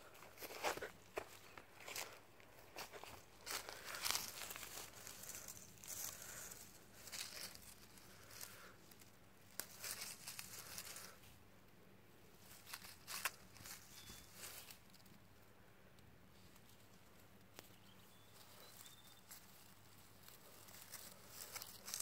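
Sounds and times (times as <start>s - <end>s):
rustling of dry grass and leaves: 0.0s - 22.0s.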